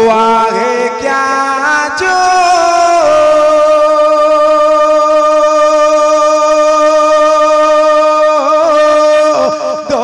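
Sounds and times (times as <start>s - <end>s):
man singing a long note: 0.0s - 10.0s.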